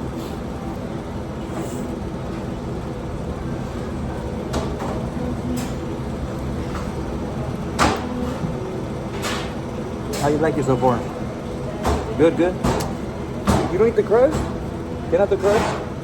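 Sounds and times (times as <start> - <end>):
restaurant room hum: 0.0 - 16.0.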